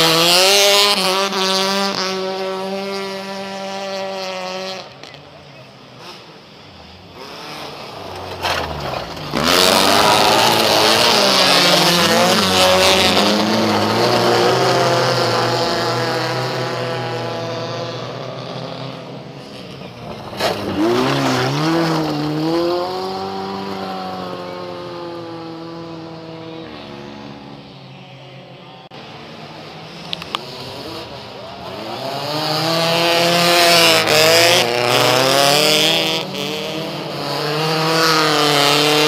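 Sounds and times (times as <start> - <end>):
race cars passing revving: 0.0 - 39.0.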